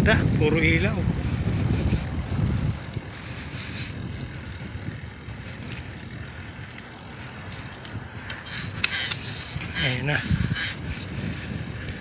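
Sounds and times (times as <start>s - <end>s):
bicycle road noise: 0.0s - 12.0s
wind on microphone: 0.0s - 12.0s.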